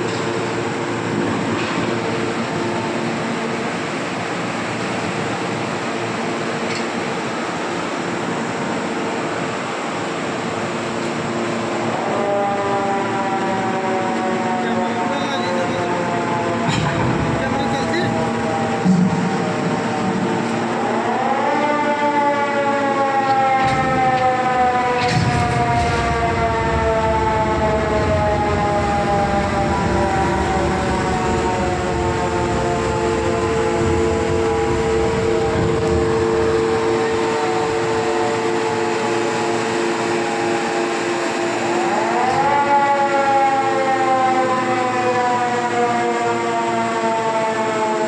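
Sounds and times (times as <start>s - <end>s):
machinery rumbling and knocking: 0.0s - 44.2s
siren-like whining tone: 0.0s - 48.0s.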